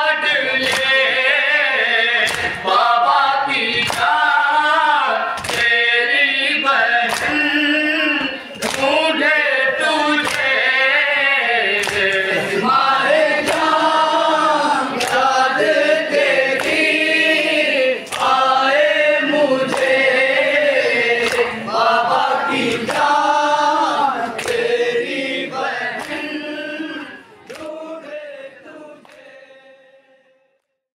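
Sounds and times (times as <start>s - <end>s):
men singing along: 0.0s - 30.0s.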